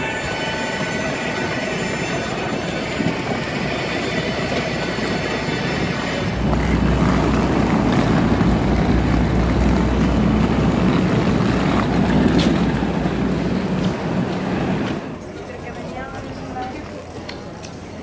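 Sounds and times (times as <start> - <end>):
vehicle low rumble: 1.1 - 18.0.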